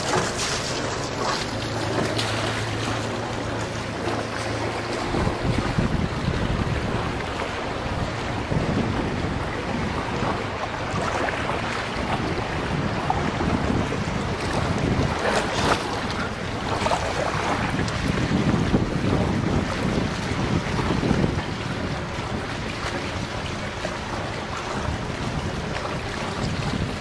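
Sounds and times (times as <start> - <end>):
water lapping around kayak: 0.0 - 27.0
water splashes: 0.0 - 27.0
wind buffeting microphone: 0.0 - 27.0.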